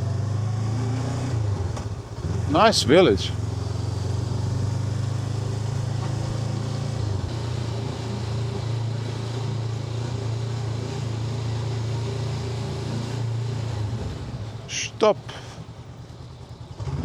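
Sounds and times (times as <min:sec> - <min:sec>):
motorcycle engine running at low revs: 0:00.0 - 0:17.0.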